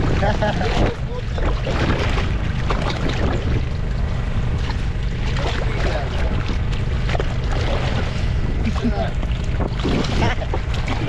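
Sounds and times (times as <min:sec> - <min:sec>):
fish thrashing and splashing: 0:00.0 - 0:11.0
low rumble of boat and wind: 0:00.0 - 0:11.0.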